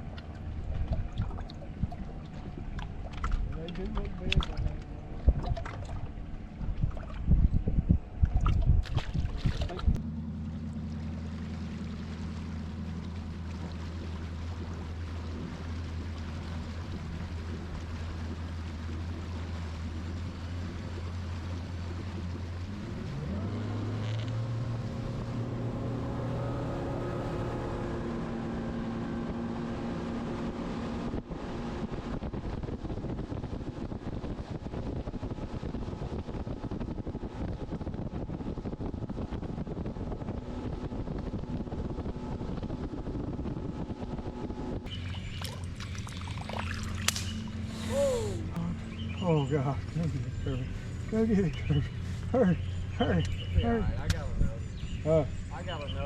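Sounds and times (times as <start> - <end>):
outboard motor running: 0.0 - 56.0
rush of wind and water: 0.0 - 56.0.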